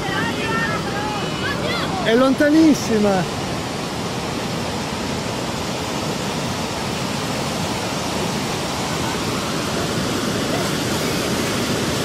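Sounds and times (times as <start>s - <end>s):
rushing seawater and surf: 0.0s - 12.0s.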